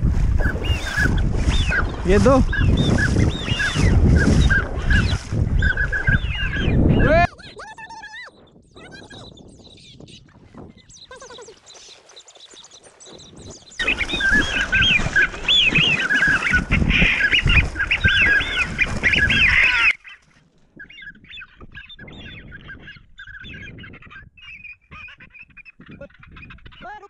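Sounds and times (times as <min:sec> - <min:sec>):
waterfowl calling: 0:00.4 - 0:08.2, 0:13.2 - 0:27.0.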